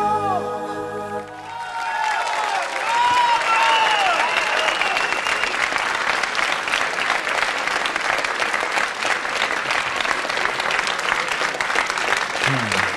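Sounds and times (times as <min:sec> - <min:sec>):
studio audience applauding: 0:01.2 - 0:12.9.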